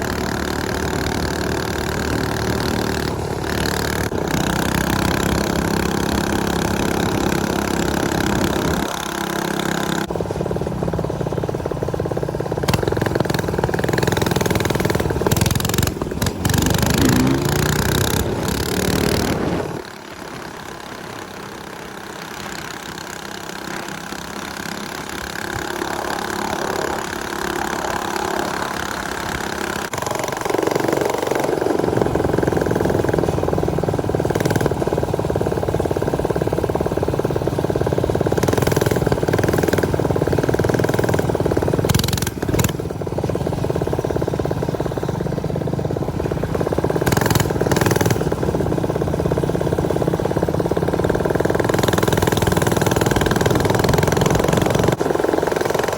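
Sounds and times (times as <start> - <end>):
off-road bike engine running: 0.0 - 55.9.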